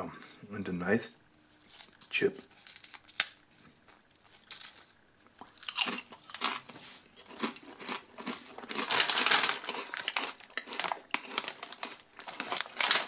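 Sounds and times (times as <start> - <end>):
crisp bag crinkling: 1.7 - 13.0.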